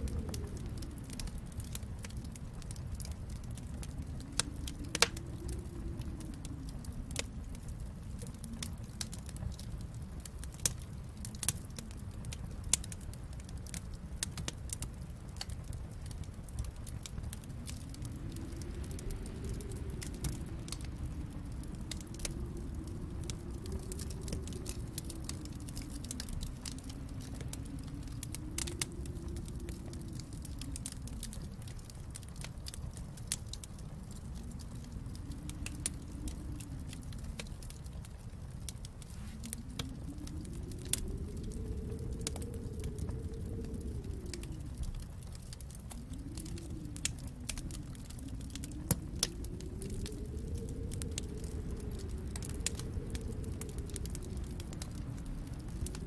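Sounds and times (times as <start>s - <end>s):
low steady rumble: 0.0s - 56.0s
wood fire crackling and popping: 0.0s - 56.0s.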